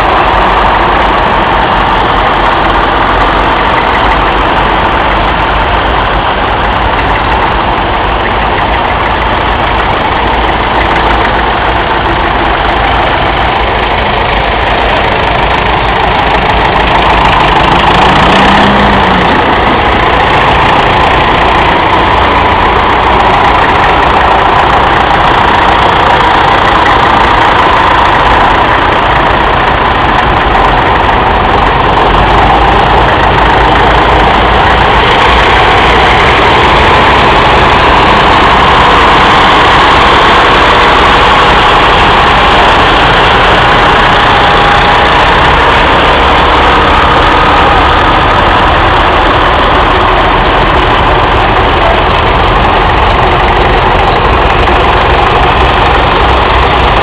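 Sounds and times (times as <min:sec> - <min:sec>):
tractor engines driving past: 0:00.0 - 0:57.0.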